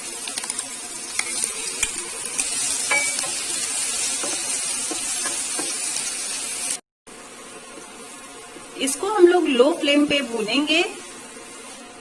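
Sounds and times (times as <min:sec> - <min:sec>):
ginger sizzling in hot oil: 0:00.0 - 0:12.0.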